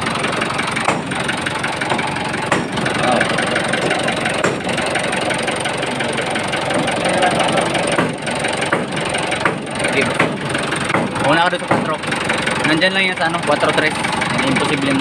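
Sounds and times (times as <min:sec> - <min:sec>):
diesel engine running with a knock: 0:00.0 - 0:15.0.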